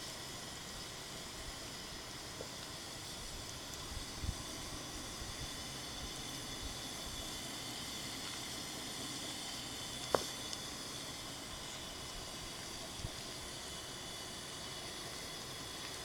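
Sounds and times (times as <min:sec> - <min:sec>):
fan heater whirring: 0:00.0 - 0:16.0.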